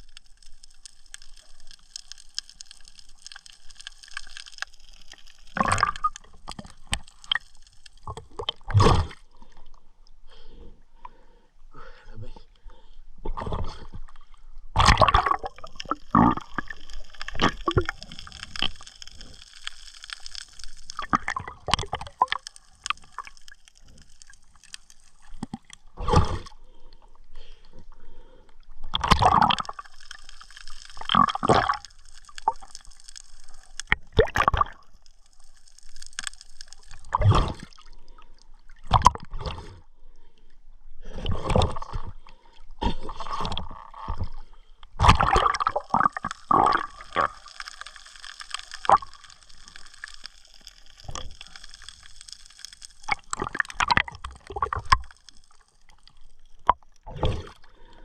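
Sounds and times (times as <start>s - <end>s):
water gurgling and splashing: 0.0s - 9.5s, 13.3s - 26.8s, 27.4s - 39.8s, 41.0s - 58.0s.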